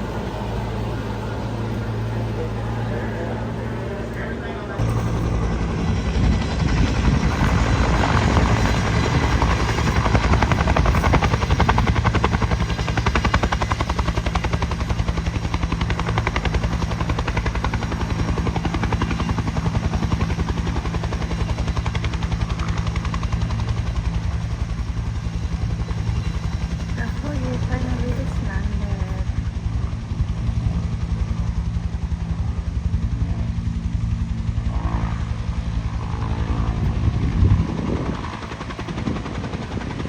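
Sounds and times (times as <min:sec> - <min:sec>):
helicopter rotor beat: 0:00.0 - 0:40.0
turbine drone: 0:00.0 - 0:40.0.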